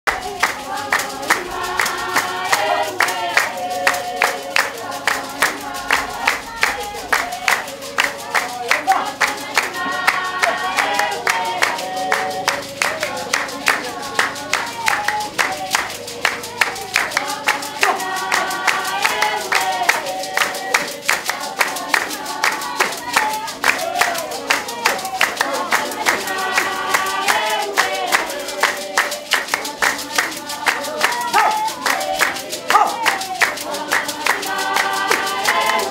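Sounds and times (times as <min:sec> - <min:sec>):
group of voices singing: 0:00.0 - 0:35.9
hand-clapping: 0:00.0 - 0:35.9.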